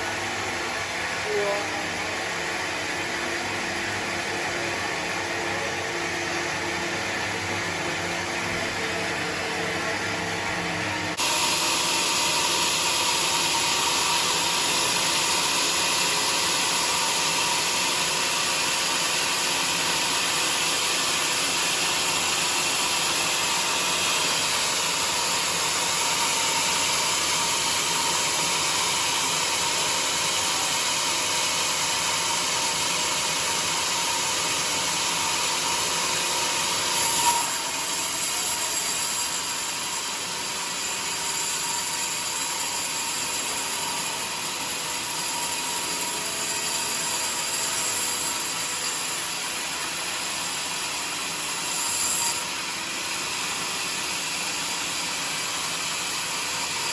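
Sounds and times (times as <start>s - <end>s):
sawmill running: 0.0s - 56.9s.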